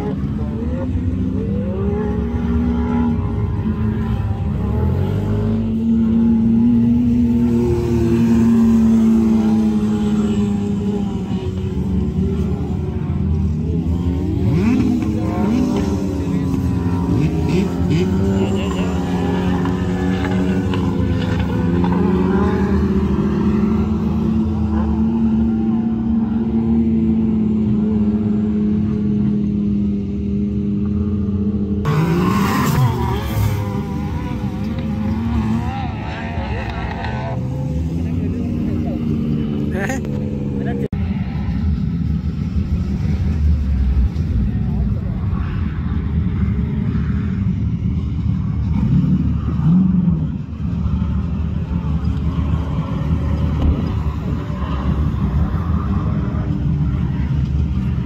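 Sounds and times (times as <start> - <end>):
off-road vehicle engines revving: 0.0 - 58.0.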